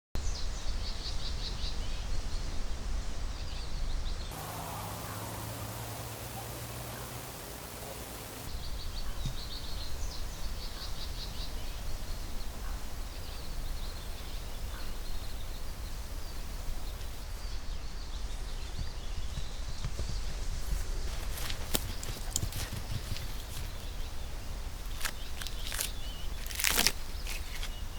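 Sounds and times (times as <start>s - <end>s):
small birds twittering: 0.2s - 27.9s.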